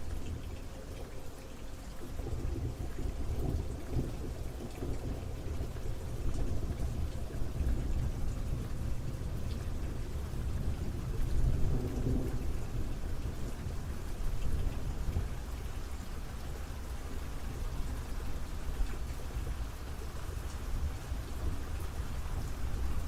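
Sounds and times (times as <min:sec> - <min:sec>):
low rumble of thunder: 0:00.0 - 0:23.0
rain falling: 0:00.0 - 0:23.0.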